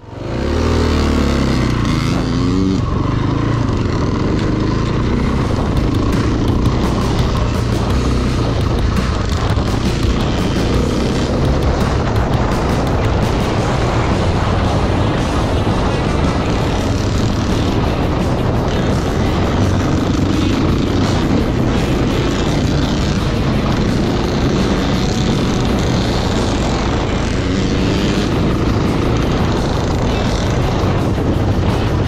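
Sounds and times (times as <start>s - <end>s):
motorcycle engine running: 0.0s - 32.0s
wind rush: 0.0s - 32.0s.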